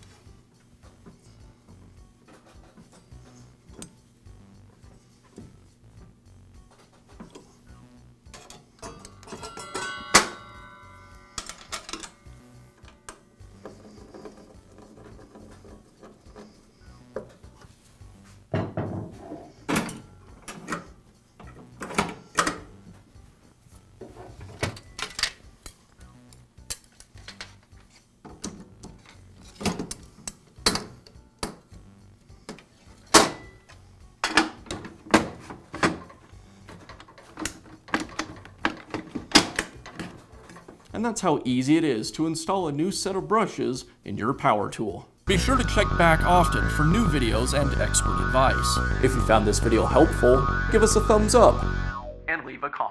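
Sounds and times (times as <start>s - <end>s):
soft background music: 0.0s - 52.9s.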